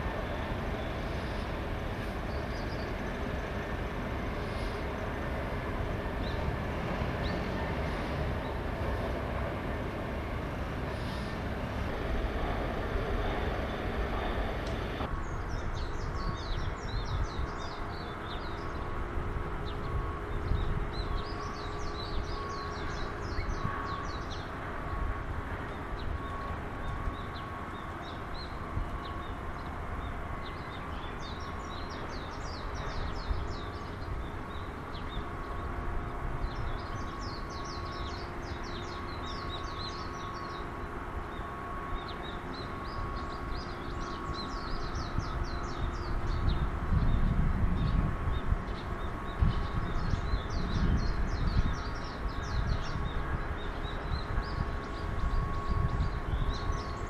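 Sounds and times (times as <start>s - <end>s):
faint constant hum: 0.0s - 57.0s.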